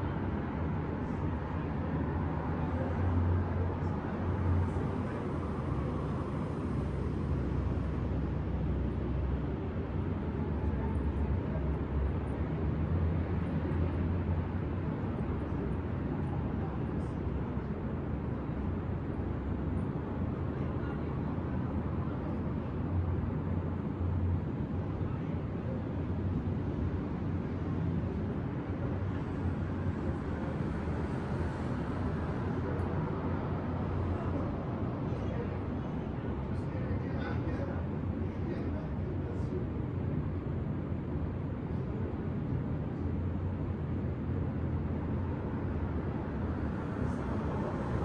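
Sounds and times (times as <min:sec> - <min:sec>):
low rumble of city traffic: 0:00.0 - 0:48.0.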